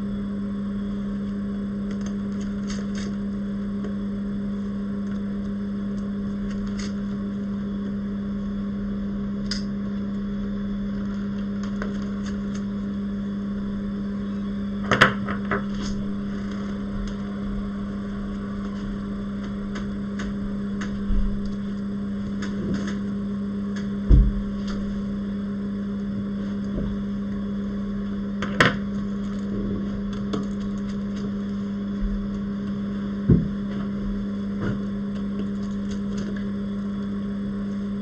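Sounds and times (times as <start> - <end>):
electrical equipment humming: 0.0 - 38.0.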